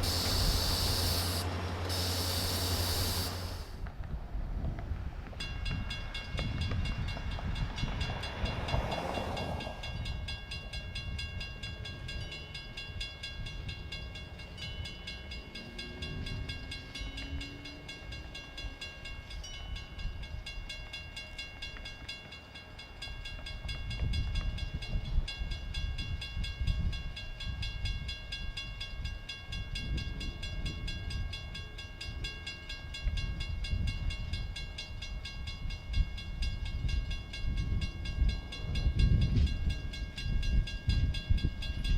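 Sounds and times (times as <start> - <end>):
electric train rumbling: 0.0 - 41.9.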